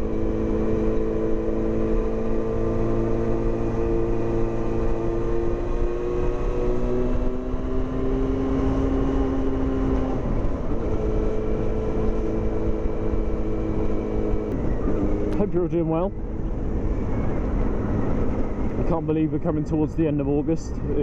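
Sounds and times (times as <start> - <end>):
motorcycle engine through loud exhaust: 0.0 - 19.0.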